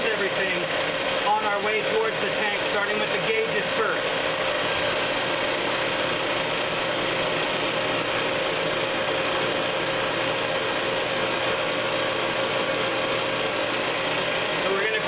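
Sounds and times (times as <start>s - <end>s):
recovery machine humming: 0.0s - 15.0s.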